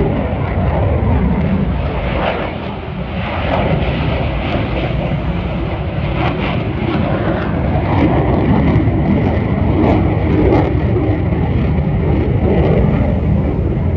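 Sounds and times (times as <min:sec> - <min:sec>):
jet engine roar: 0:00.0 - 0:13.9.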